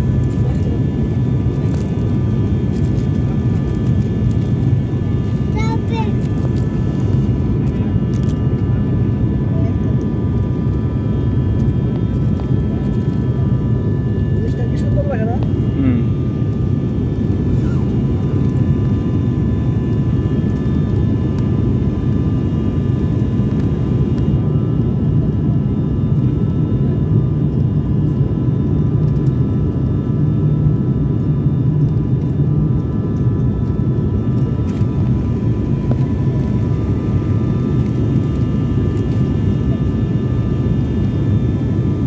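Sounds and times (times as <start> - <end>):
airliner cabin drone: 0.0 - 42.0.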